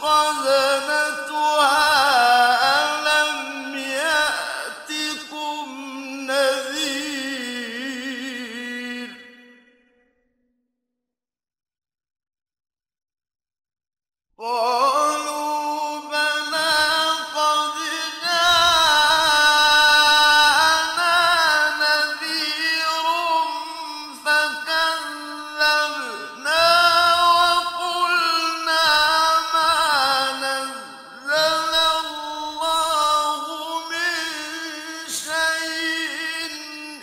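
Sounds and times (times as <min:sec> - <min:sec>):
man chanting melodic recitation: 0:00.0 - 0:09.5, 0:14.4 - 0:37.0.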